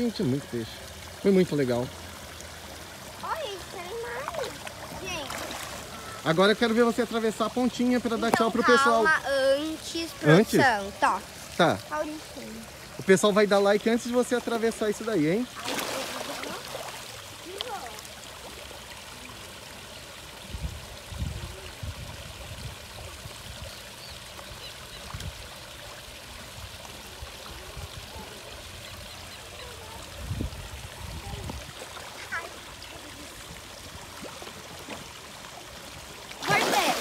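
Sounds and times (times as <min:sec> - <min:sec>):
waterfall rushing into pond: 0:00.0 - 0:37.0.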